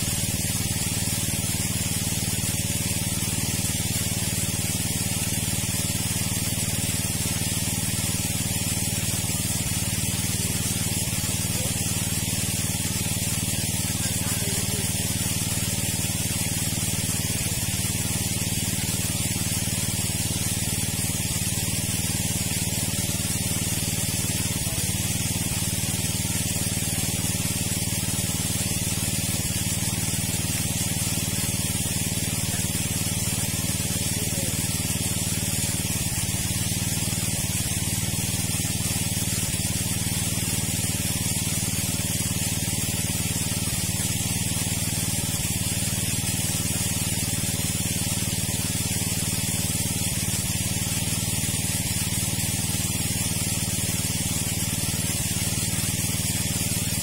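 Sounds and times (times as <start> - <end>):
hiss of pumped water: 0.0 - 57.0
water pump motor running: 0.0 - 57.0.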